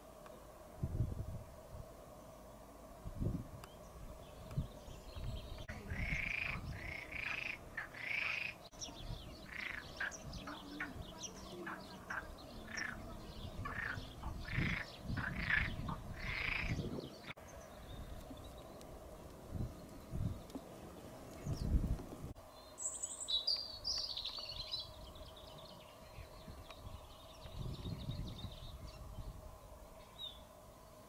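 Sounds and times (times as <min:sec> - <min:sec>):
small birds singing: 0:03.6 - 0:31.0.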